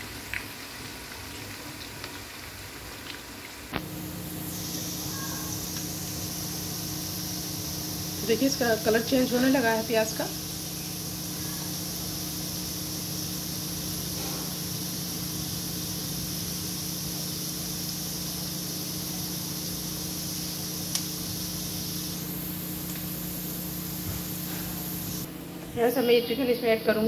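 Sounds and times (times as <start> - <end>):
onions sizzling in hot oil: 0.0 - 25.3.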